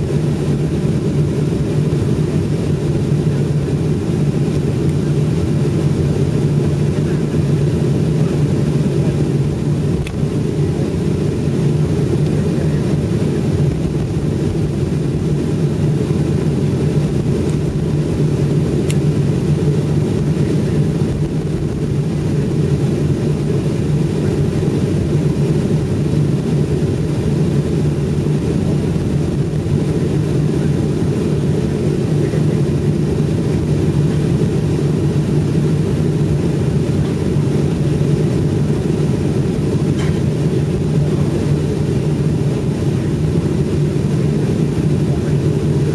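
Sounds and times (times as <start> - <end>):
airliner cabin rumble: 0.0 - 45.9
jet engines idling: 0.0 - 45.9.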